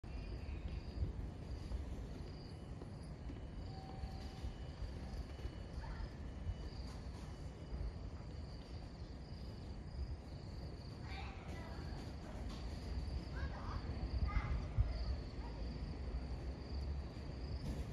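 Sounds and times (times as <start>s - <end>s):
low outdoor rumble: 0.0s - 17.9s.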